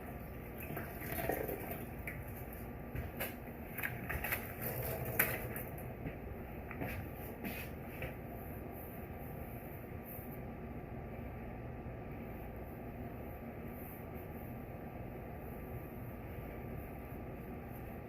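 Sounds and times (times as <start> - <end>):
wet rag wiping surfaces: 0.0 - 10.5, 12.3 - 18.0.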